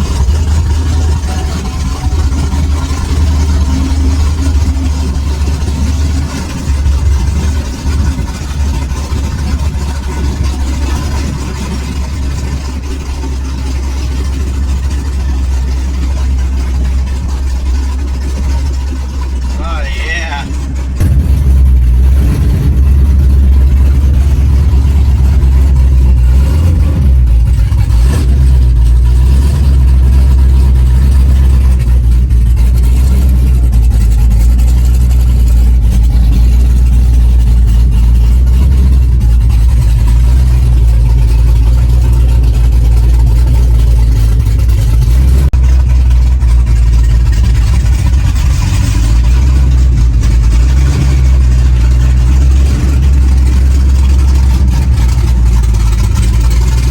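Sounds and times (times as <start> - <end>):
loud car engine idling: 0.0 - 56.9.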